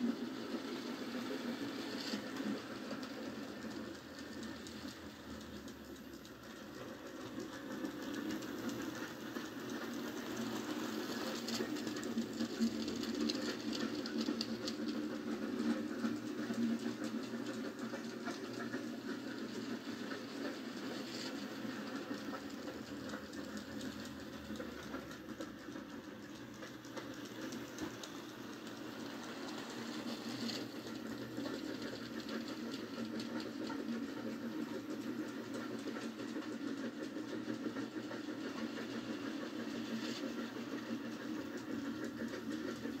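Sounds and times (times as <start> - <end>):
model train motor whir: 0.0 - 43.0
wheels clicking on rails: 0.0 - 43.0.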